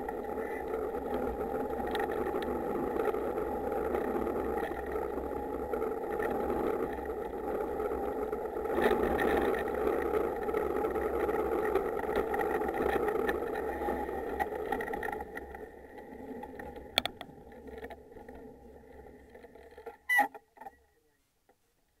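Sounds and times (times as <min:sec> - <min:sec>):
wheels rolling rumble and rattle: 0:00.0 - 0:20.9.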